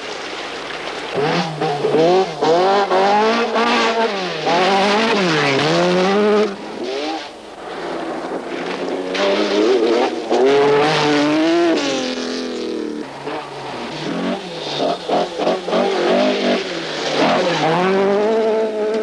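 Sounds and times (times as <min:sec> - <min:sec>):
rally car engine revving: 0:01.1 - 0:19.0.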